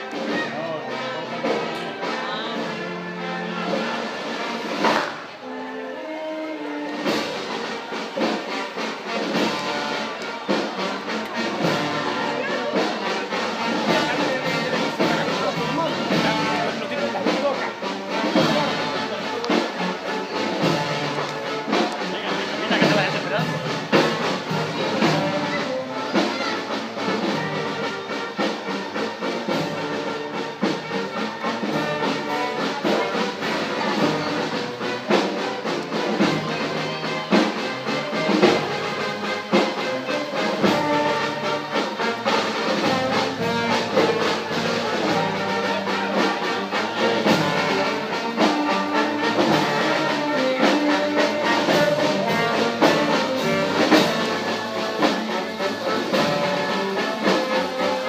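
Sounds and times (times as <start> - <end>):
brass band music: 0.0 - 58.0.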